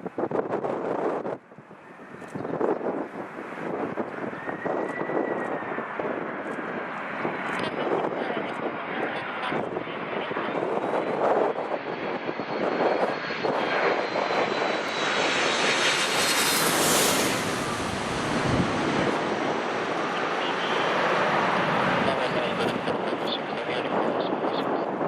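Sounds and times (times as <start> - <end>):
jet airliner passing overhead: 0.1 - 25.0.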